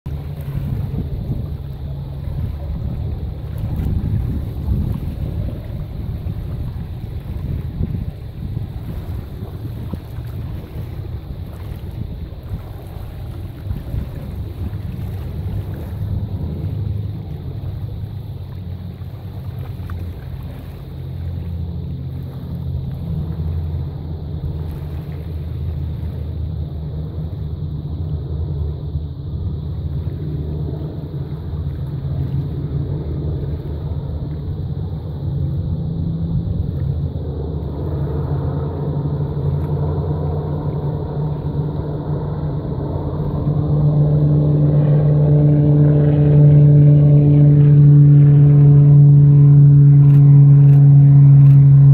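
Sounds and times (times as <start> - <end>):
aircraft engines droning: 0.1 - 51.9.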